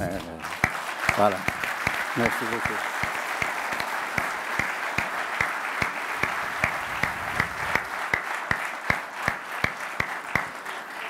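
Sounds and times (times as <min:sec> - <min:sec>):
large audience applauding: 0:00.0 - 0:11.0
sharp single claps nearby: 0:00.5 - 0:10.7.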